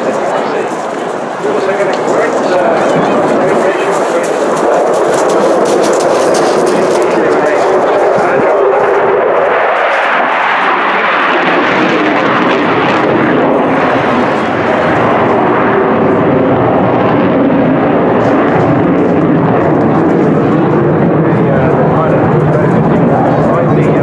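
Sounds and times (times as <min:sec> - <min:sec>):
fighter jet engine roar: 0:00.0 - 0:24.0.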